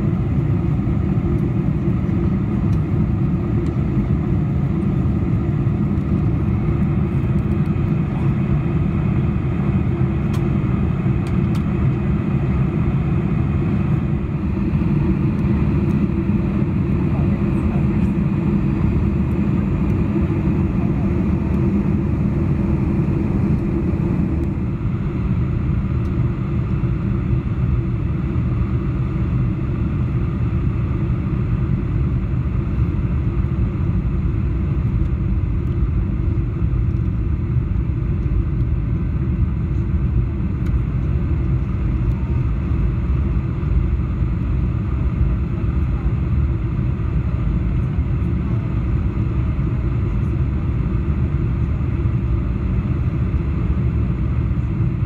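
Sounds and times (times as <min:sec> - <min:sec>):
airliner cabin rumble in flight: 0:00.0 - 0:55.0.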